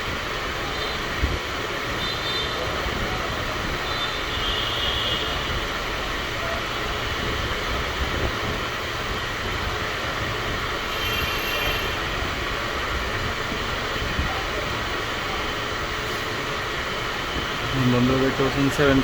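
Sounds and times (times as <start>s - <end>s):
background rumble and hiss: 0.0s - 19.0s.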